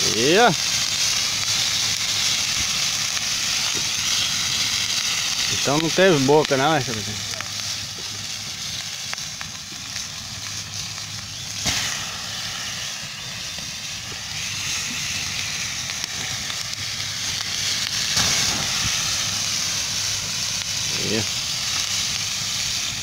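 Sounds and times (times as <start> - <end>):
fish sizzling in hot oil: 0.0 - 23.0
oil popping: 0.0 - 23.0
wood fire crackling: 0.0 - 23.0.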